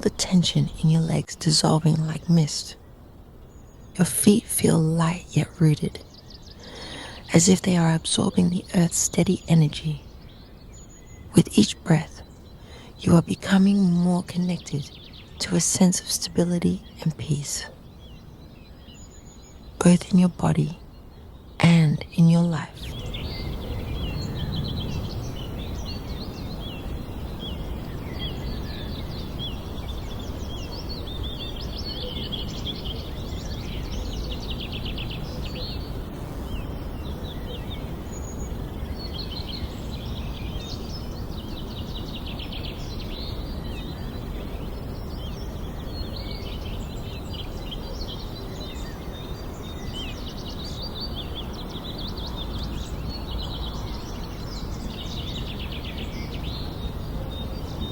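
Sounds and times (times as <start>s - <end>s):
low background noise: 0.0s - 57.9s
small birds chirping: 0.0s - 57.9s.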